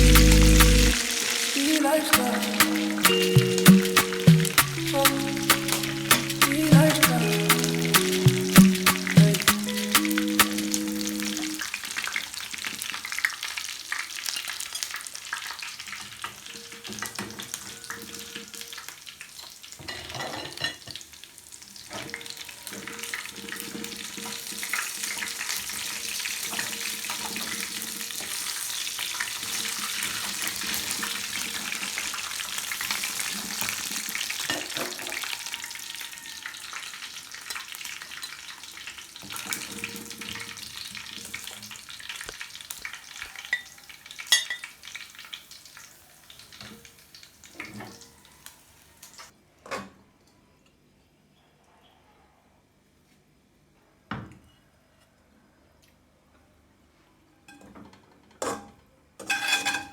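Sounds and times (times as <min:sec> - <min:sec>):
food sizzling in a pan: 0:00.0 - 0:49.3.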